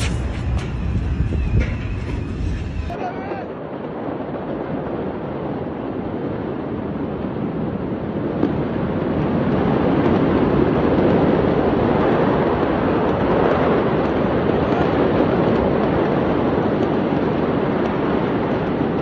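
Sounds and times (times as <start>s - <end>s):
outdoor rushing noise: 0.0s - 19.0s.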